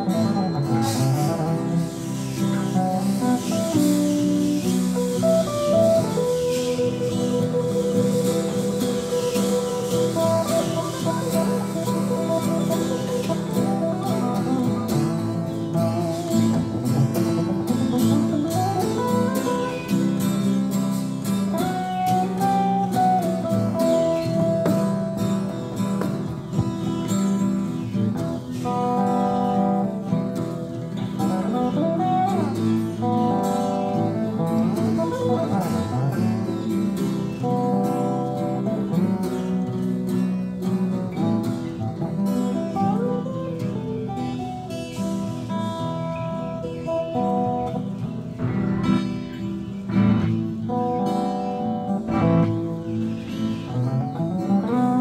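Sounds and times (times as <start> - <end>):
acoustic guitars playing: 0.0 - 55.0.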